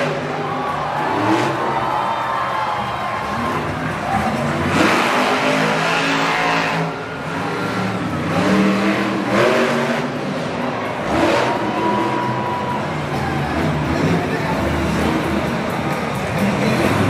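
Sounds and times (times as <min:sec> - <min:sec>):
truck engine revving hard: 0:00.0 - 0:02.1, 0:03.1 - 0:17.0.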